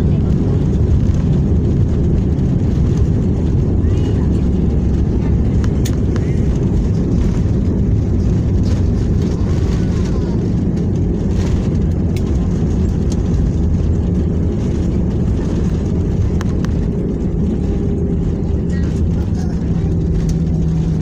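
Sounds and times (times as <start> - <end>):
airliner cabin low rumble: 0.0 - 21.0.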